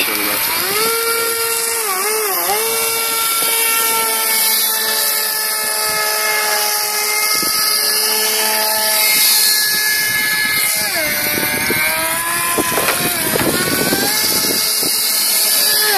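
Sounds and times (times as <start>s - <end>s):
model airboat motor whine: 0.0s - 15.9s.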